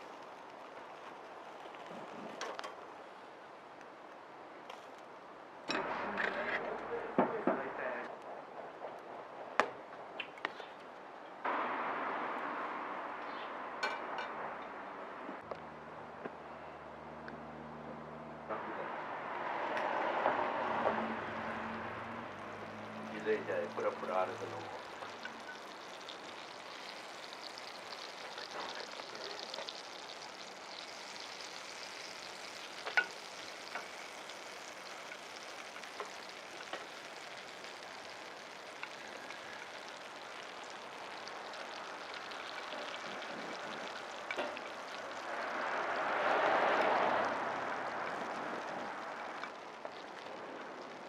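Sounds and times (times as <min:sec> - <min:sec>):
food sizzling over charcoal: 0:00.0 - 0:10.7, 0:11.4 - 0:14.5, 0:17.6 - 0:51.0.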